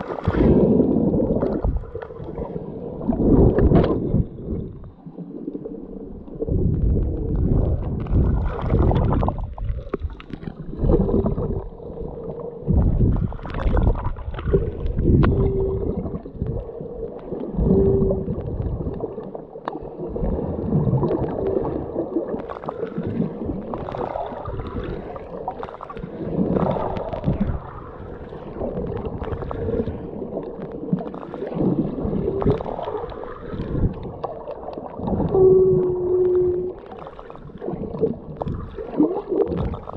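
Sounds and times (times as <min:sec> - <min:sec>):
muffled water sloshing underwater: 0:00.0 - 0:39.9.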